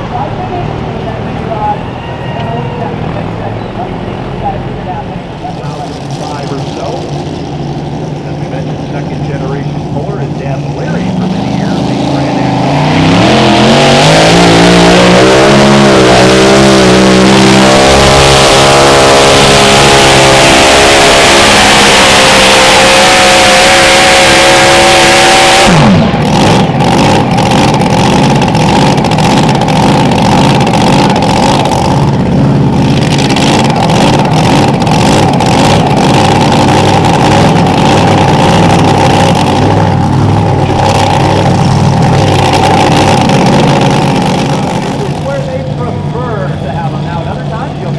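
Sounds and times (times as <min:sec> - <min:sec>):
engine crackles: 0:00.0 - 0:47.9
tractor engines at full throttle: 0:00.0 - 0:47.9.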